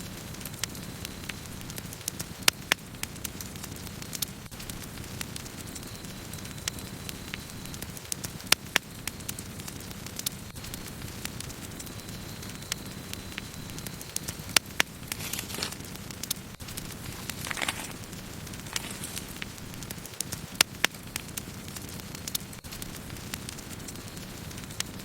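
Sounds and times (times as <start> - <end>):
campfire crackling: 0.0 - 25.0
fire hissing: 0.0 - 25.0
flames rushing: 0.0 - 25.0.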